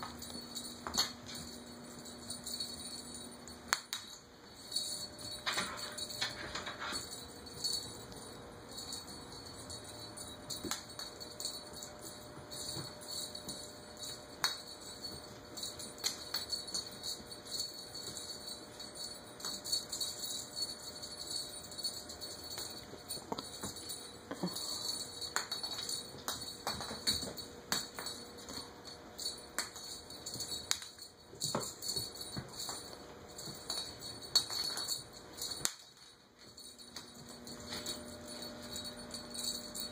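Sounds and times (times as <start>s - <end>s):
small bells jingling: 0.0s - 39.9s.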